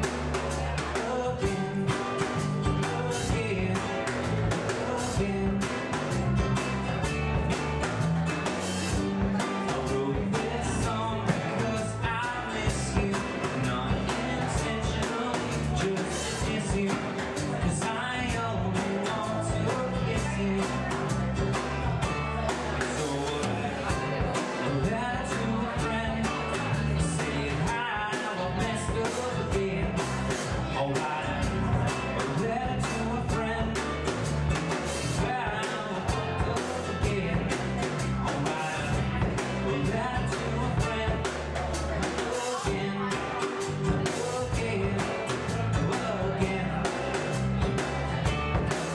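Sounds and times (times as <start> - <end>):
drum kit beat: 0.0 - 48.9
electric bass: 0.0 - 48.9
live rock band playing: 0.0 - 48.9
strummed acoustic guitar: 0.0 - 48.9.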